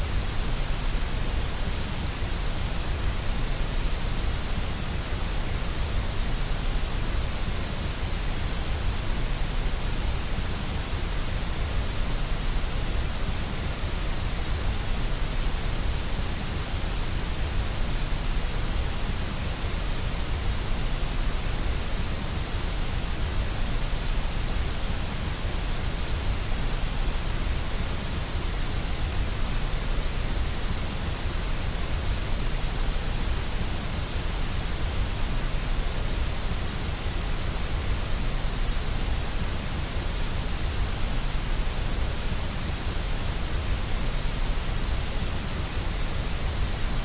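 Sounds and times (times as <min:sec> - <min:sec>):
white noise hiss: 0:00.0 - 0:47.0.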